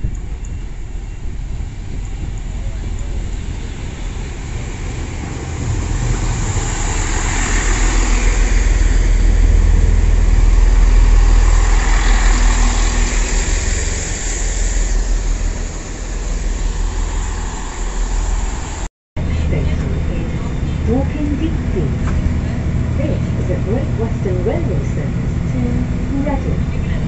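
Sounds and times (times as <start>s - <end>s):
diesel train rumbling past: 0.0s - 27.0s.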